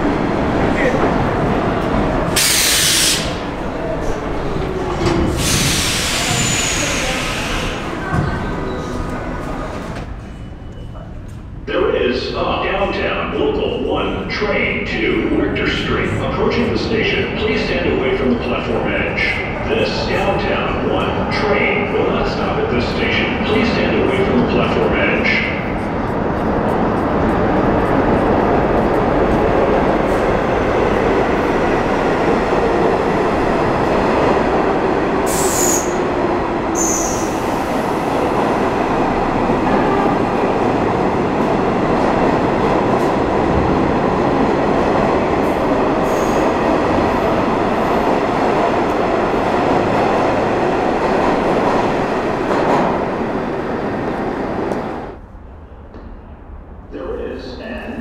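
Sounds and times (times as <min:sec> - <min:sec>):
train wheels rumbling on rails: 0:00.0 - 0:11.8, 0:15.5 - 0:56.9.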